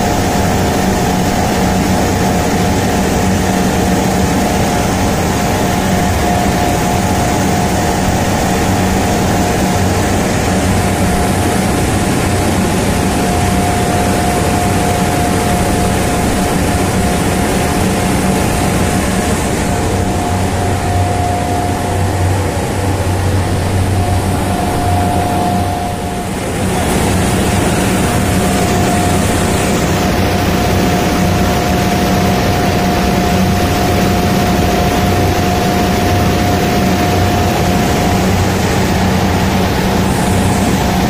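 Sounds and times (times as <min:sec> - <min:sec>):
broad rushing noise: 0:00.0 - 0:41.0
machinery low hum: 0:00.0 - 0:41.0
machinery whine: 0:00.0 - 0:41.0.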